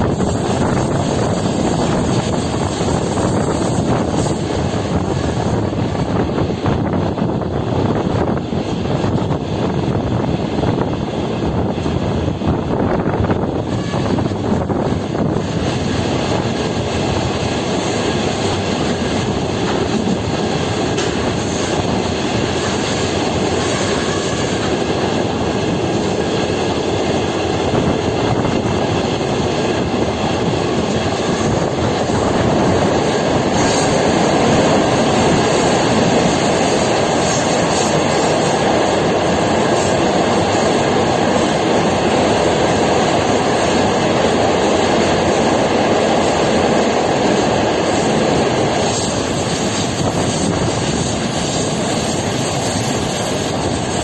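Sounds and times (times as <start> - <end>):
rushing air: 0.0 - 54.0
train wheels on rails: 0.0 - 54.0.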